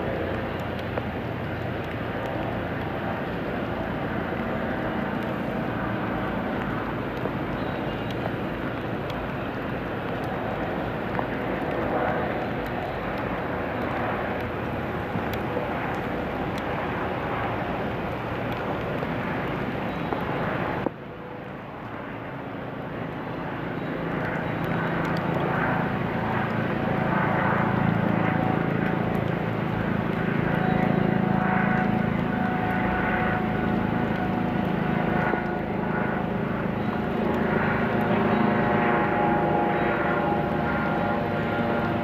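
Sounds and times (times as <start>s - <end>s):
low rumble of machinery: 0.0s - 42.0s.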